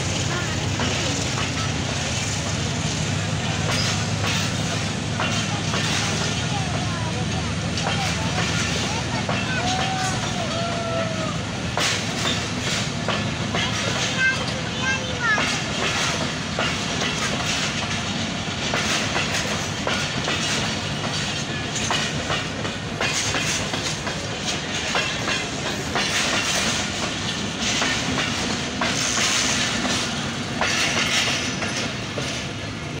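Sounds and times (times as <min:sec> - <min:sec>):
train rumble and hiss: 0:00.0 - 0:33.0
wheels clicking over rail joints: 0:00.0 - 0:33.0.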